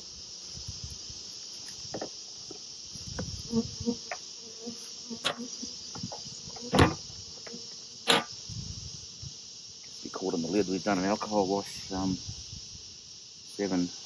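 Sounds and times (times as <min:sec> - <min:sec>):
high drone of insects: 0:00.0 - 0:14.0
honeybees buzzing: 0:00.0 - 0:14.0.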